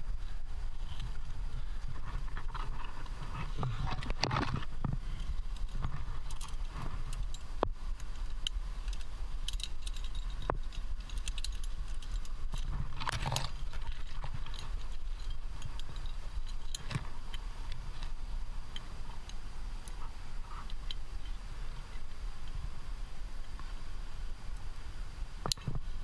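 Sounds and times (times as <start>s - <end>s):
metal climbing gear clinking: 0.0s - 22.7s, 25.4s - 25.9s
low steady rumble: 0.0s - 26.0s.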